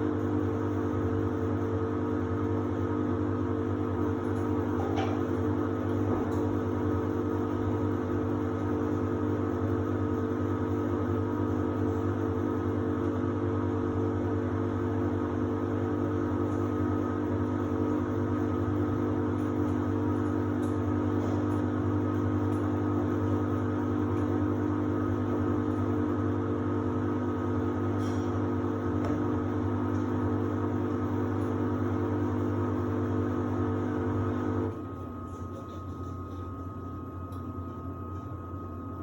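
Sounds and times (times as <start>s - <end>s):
washer-dryer humming: 0.0s - 39.0s.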